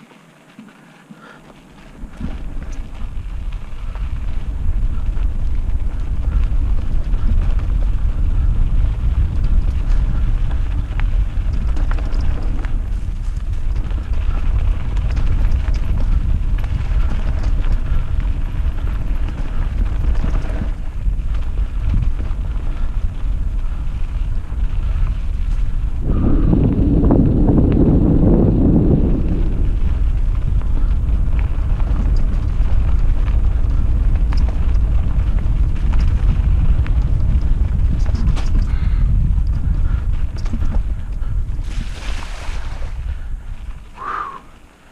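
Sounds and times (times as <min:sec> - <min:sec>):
bike rattling and knocking: 0:00.5 - 0:44.2
wind rumbling on microphone: 0:01.1 - 0:44.9.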